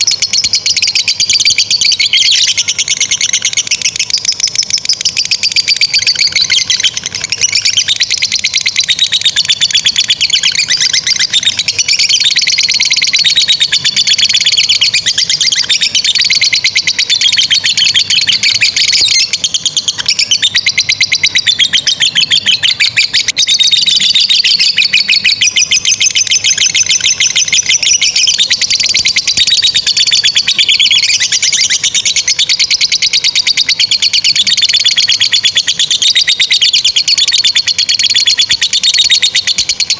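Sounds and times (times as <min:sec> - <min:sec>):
lovebirds chattering trills: 0:00.0 - 0:39.9.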